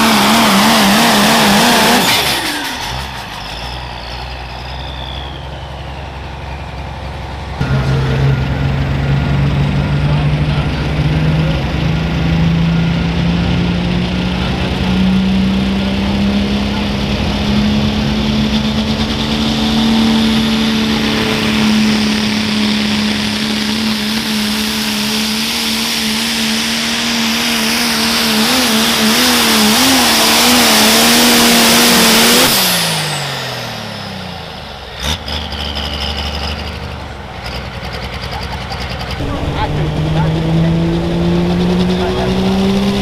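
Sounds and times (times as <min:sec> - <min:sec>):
diesel truck engine at full throttle: 0:00.0 - 0:43.0
turbo whine: 0:01.4 - 0:34.9, 0:39.2 - 0:43.0.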